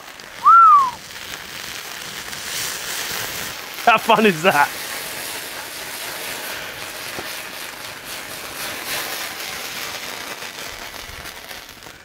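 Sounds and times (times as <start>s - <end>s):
faint crackles: 0.0s - 12.0s
pan sizzling: 0.0s - 12.0s.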